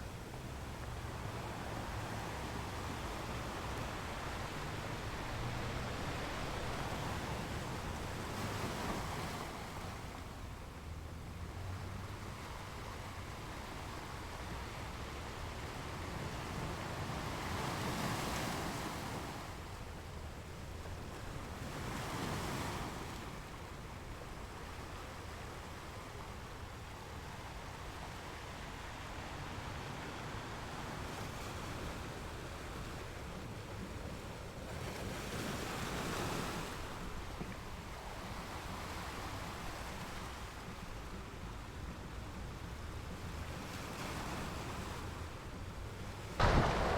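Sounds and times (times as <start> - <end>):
ocean waves on shore: 0.0 - 46.9.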